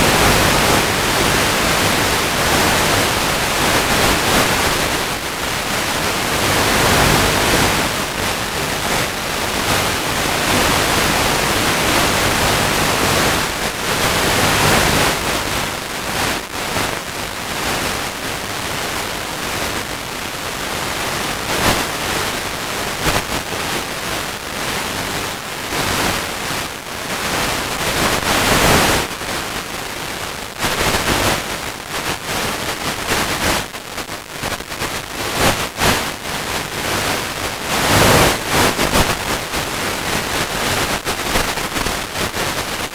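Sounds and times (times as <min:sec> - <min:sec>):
radio static hiss: 0:00.0 - 0:42.9.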